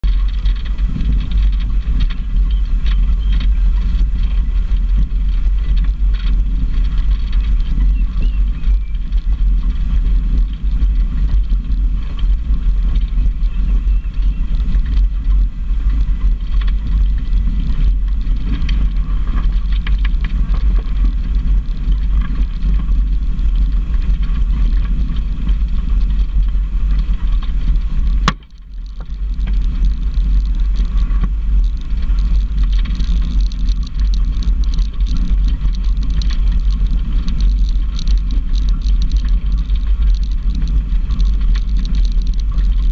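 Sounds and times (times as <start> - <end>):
tyres crunching on gravel: 0.0 - 42.9
vehicle engine rumble: 0.0 - 42.9.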